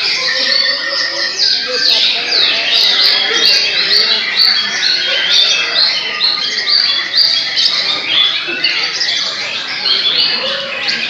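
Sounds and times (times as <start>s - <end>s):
songbirds singing in chorus: 0.0s - 11.0s.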